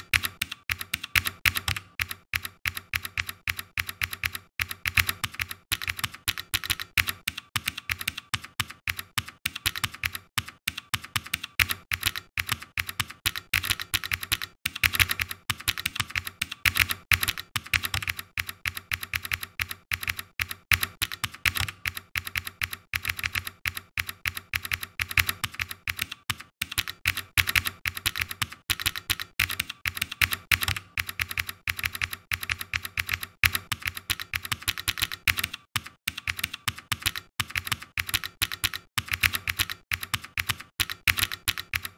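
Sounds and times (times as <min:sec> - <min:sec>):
computer keyboard typing: 0:00.0 - 0:41.9.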